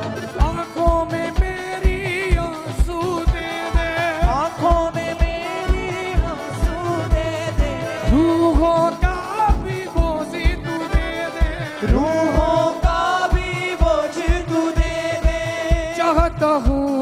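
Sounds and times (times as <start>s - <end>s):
keyboard: 0.0s - 17.0s
steady drum beat: 0.0s - 17.0s.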